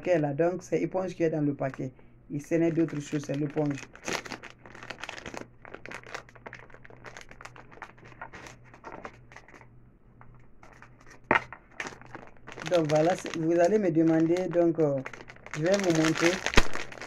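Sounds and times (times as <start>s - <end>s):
plastic packaging crinkling and tearing: 1.6s - 9.6s, 10.6s - 17.0s.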